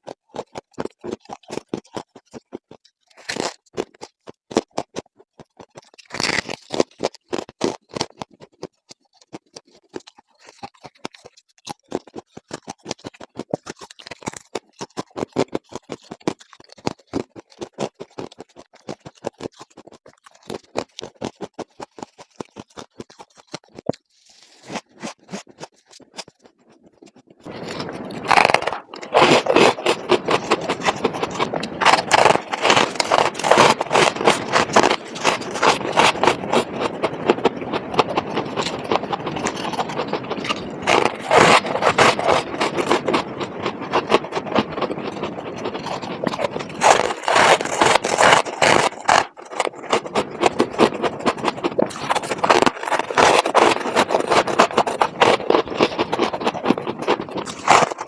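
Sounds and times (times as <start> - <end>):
ice being scraped: 0.3 - 26.3, 27.4 - 58.0.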